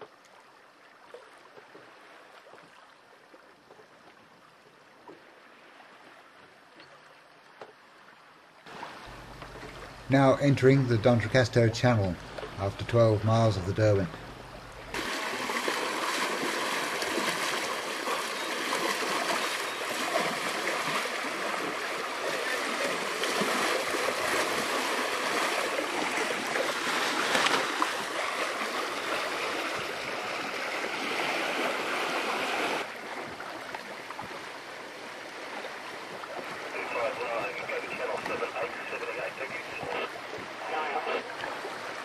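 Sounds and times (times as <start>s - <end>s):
water rushing along boat hull: 0.0s - 42.0s.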